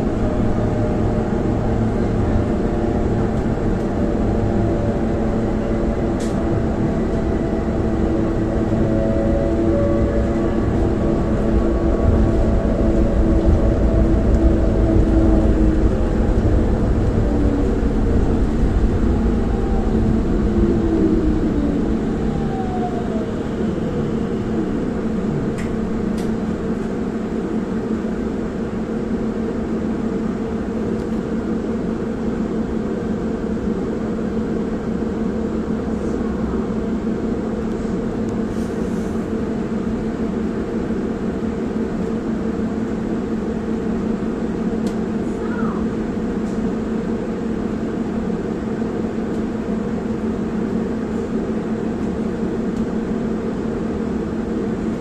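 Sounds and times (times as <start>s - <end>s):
tram running noise: 0.0s - 55.0s.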